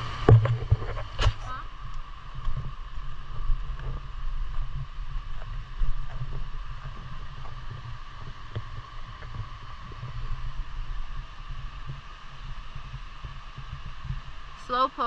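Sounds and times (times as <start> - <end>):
high background hum: 0.0 - 15.0
wind rumble: 0.0 - 15.0.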